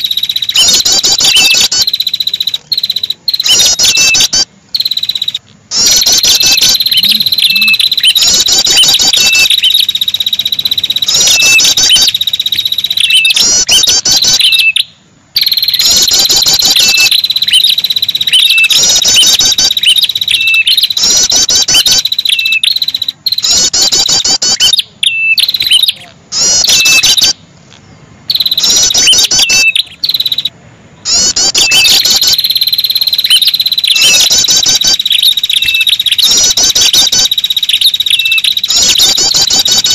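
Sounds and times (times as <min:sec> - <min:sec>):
bird trilled phrases: 0:00.0 - 0:27.4, 0:28.3 - 0:39.9
high continuous bird trill: 0:00.0 - 0:39.9.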